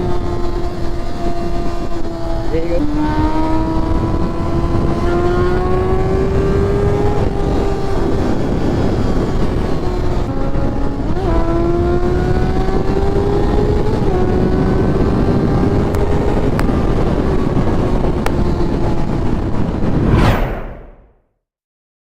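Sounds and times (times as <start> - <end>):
vehicle engine at high revs: 0.0 - 20.8
wind and road rush: 0.0 - 21.2.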